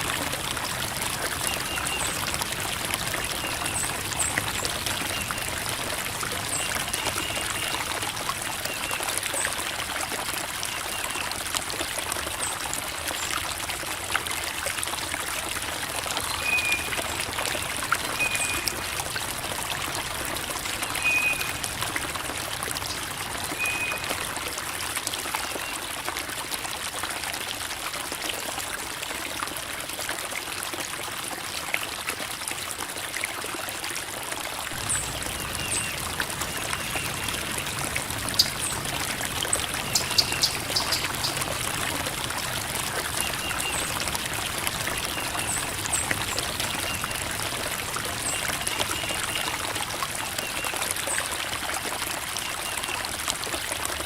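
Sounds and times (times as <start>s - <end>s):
creek water babbling over rocks: 0.0s - 54.0s.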